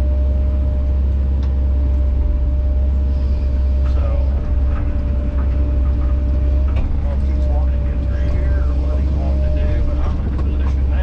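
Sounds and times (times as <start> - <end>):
excavator diesel engine droning: 0.0 - 11.0
faint whine: 0.0 - 11.0.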